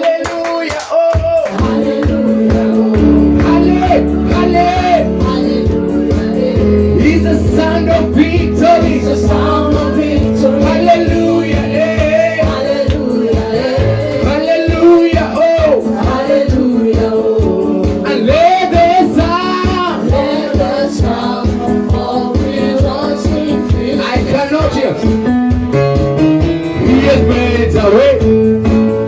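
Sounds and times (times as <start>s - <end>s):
steady drum beat: 0.0s - 29.0s
voices singing: 1.2s - 25.0s
bass line: 1.2s - 29.0s
keyboard chords: 1.2s - 29.0s.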